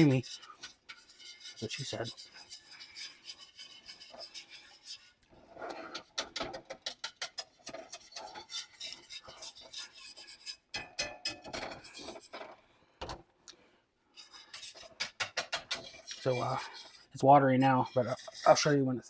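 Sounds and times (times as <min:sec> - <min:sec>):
whisk scraping a metal pan: 0:00.0 - 0:12.6, 0:14.2 - 0:19.0.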